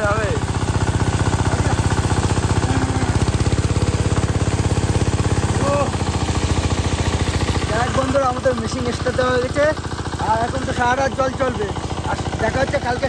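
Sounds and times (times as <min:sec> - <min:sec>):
water pump engine chugging: 0:00.0 - 0:13.0.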